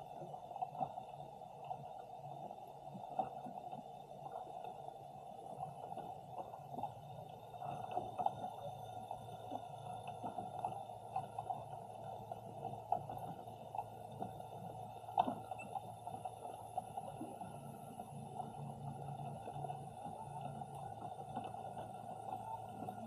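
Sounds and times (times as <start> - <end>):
muffled underwater hum: 0.0 - 23.0
small clicks and crackles: 0.0 - 23.0.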